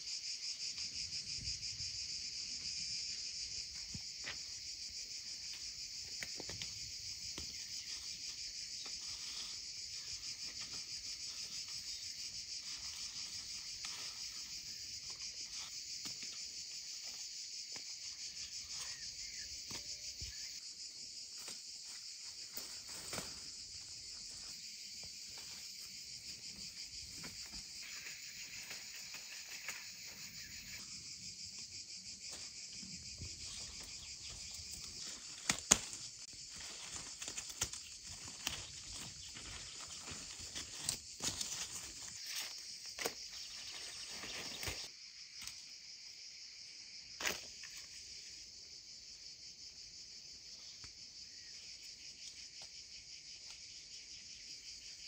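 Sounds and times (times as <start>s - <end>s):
insects chirring: 0.0s - 55.0s
rustling leaves and bean pods: 0.2s - 45.8s.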